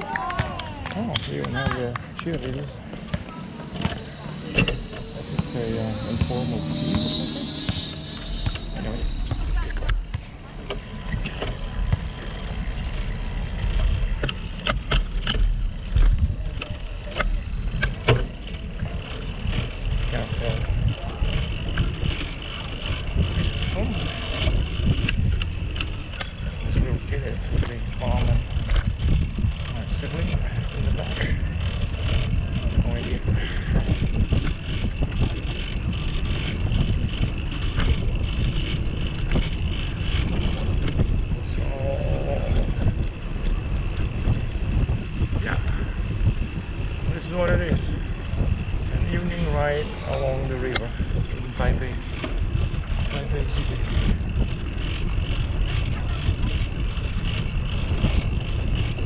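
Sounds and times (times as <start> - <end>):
bicycle road noise: 0.0 - 59.0
wind rumble on microphone: 0.0 - 59.0
small rattles: 2.0 - 59.0.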